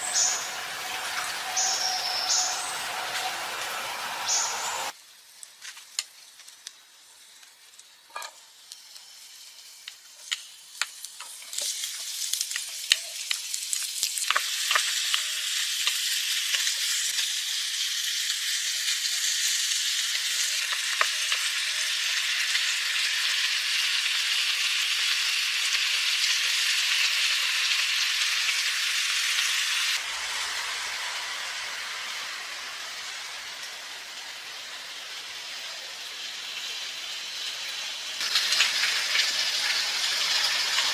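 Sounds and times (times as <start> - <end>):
food sizzling in hot oil: 0.0 - 40.9.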